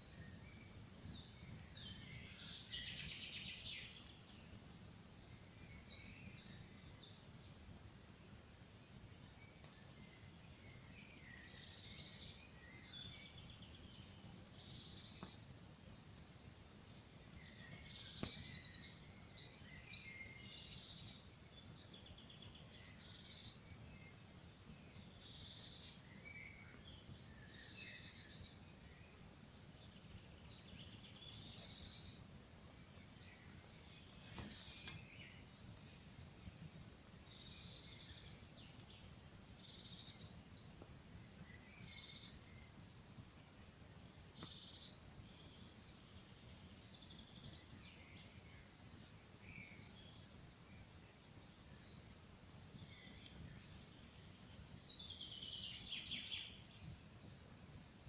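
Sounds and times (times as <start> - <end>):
forest birds singing: 0.0 - 58.0
low steady hiss: 0.0 - 58.0.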